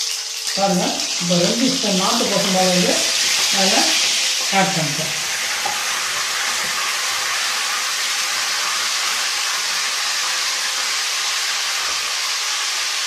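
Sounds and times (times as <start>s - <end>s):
milk sizzling in hot oil: 0.0s - 13.0s.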